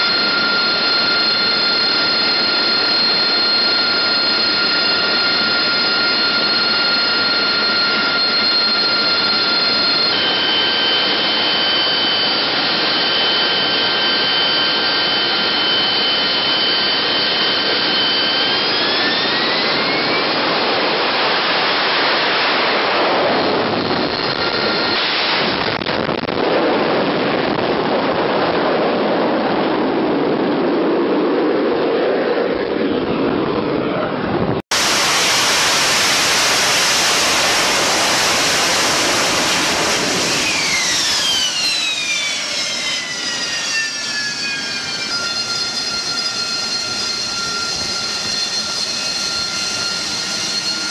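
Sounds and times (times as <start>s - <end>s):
jet engine roar: 0.0s - 50.9s
jet engine whine: 0.0s - 50.9s.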